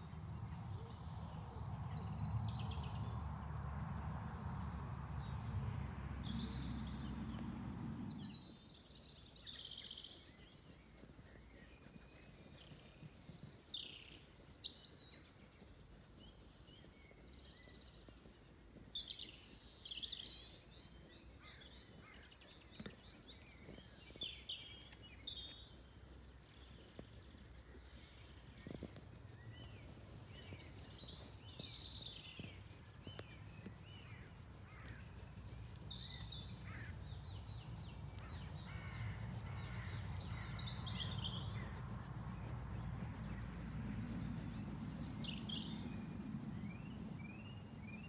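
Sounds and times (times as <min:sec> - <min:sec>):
songbirds singing: 0:00.0 - 0:48.0.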